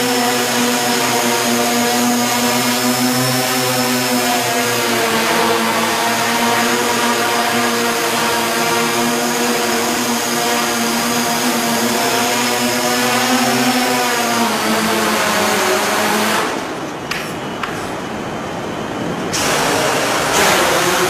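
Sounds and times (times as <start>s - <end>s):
drone propellers buzzing: 0.0s - 21.0s.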